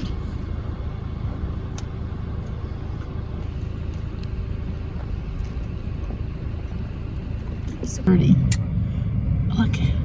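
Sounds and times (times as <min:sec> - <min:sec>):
car rumble from inside cabin: 0:00.0 - 0:10.0.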